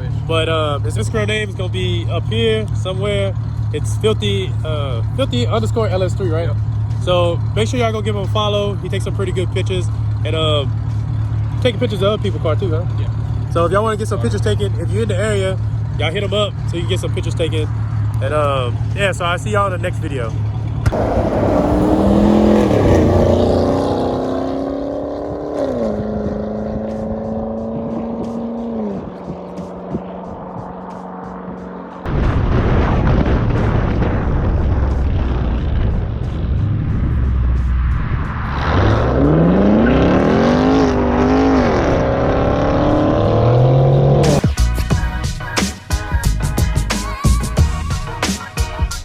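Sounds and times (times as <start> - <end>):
car engine driving off: 0.0 - 44.6.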